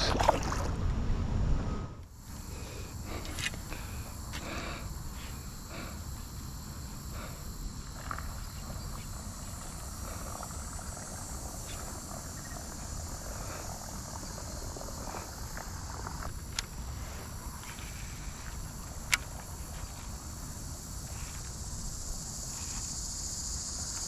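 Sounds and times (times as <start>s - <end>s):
insect chorus: 0.0s - 0.9s, 1.7s - 24.0s.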